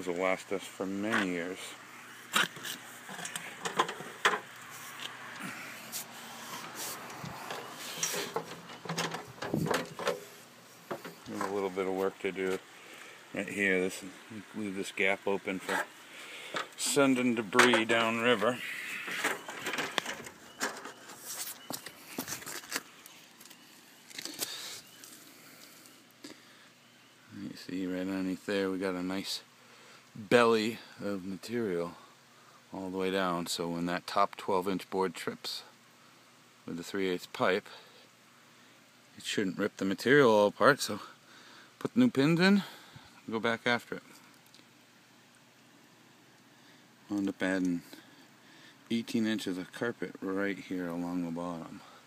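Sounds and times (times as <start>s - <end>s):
faint steady hiss: 0.0s - 52.0s.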